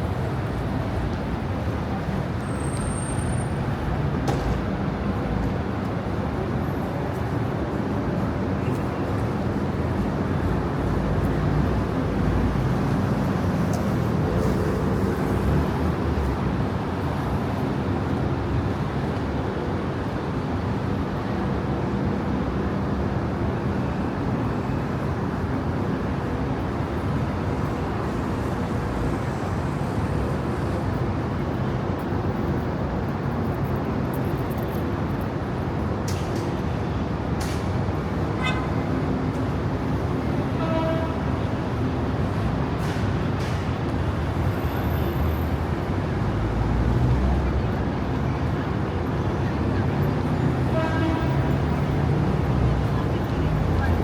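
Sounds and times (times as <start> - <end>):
road traffic: 0.0 - 54.0.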